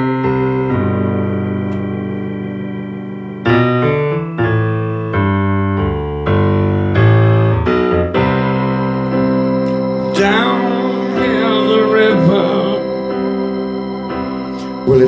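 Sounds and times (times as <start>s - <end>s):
piano ballad chords: 0.0s - 15.0s.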